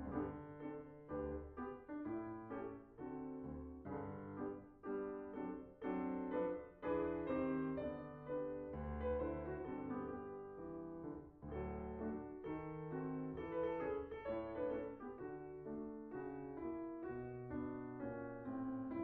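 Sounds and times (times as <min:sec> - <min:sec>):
background piano music: 0:00.0 - 0:19.0.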